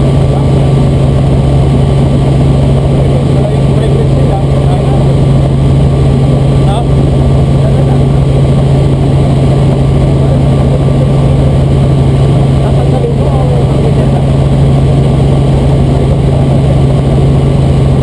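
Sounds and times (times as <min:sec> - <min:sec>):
helicopter drone from inside cabin: 0:00.0 - 0:18.0.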